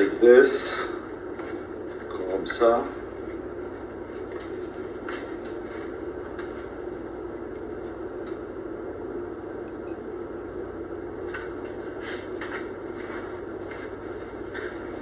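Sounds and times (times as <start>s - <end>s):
kitchen room hum: 0.0s - 15.0s.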